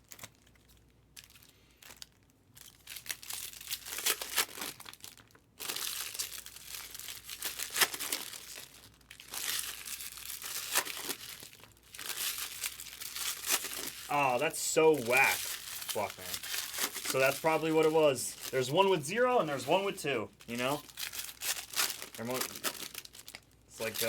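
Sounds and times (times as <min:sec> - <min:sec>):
foil wrappers tearing and crinkling: 0:00.0 - 0:24.0.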